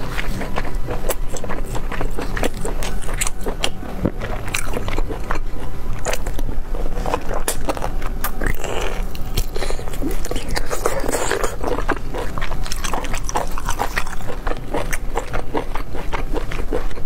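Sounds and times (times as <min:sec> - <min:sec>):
wet biting and chewing: 0:00.0 - 0:17.0.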